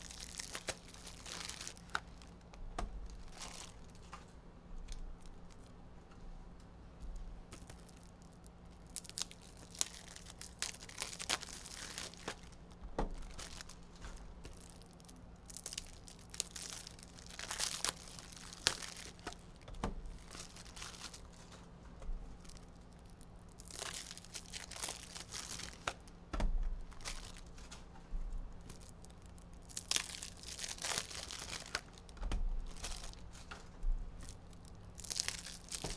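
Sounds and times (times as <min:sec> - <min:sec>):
packaging crinkling and tearing: 0:00.0 - 0:04.2, 0:07.5 - 0:21.6, 0:22.4 - 0:27.9, 0:28.6 - 0:35.9.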